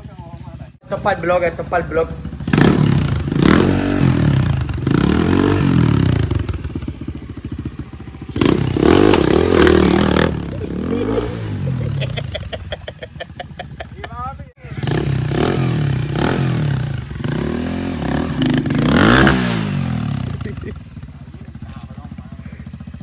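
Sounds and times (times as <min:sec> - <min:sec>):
dirt bike engine revving: 0:00.8 - 0:23.0.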